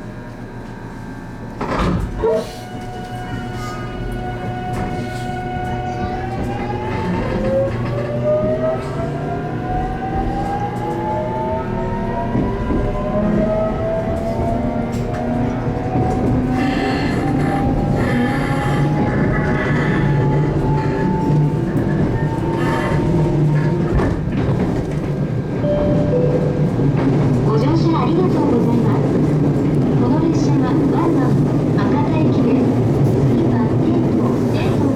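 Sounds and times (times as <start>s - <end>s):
train running noise: 0.0s - 34.9s.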